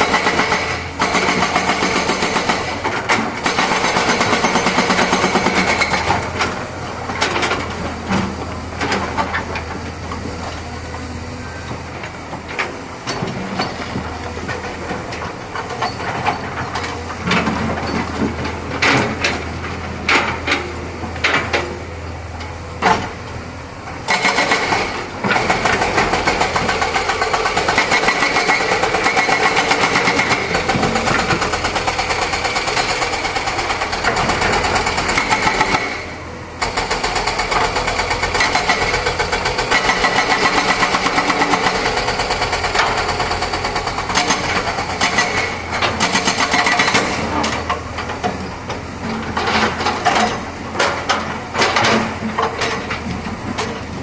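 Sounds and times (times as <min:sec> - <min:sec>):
excavator diesel engine under load: 0:00.0 - 0:54.0.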